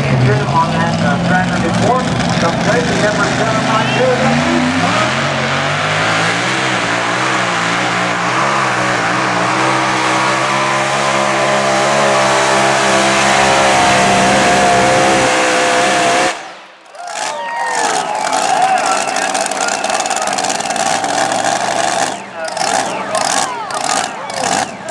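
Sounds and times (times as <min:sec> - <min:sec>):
tractor engine at full throttle: 0:00.0 - 0:24.9.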